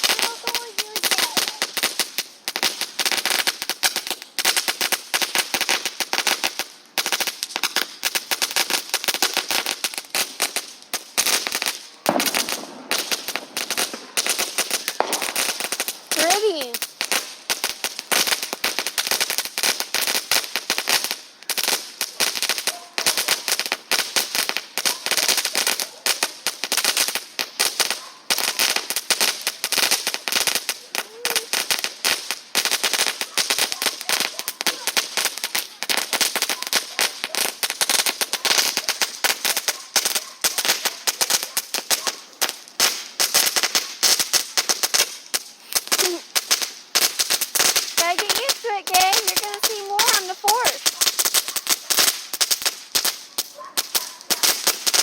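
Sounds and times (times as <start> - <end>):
firework crackling: 0.0 - 55.0.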